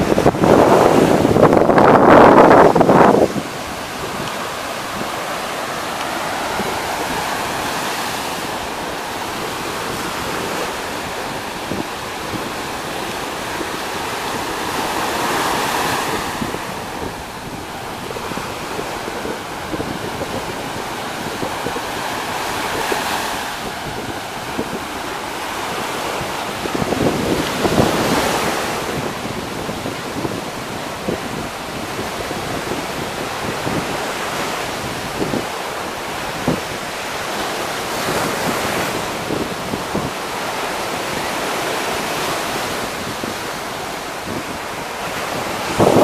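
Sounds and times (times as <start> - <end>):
sea waves breaking on shore: 0.0 - 46.0
wind buffeting microphone: 0.0 - 46.0.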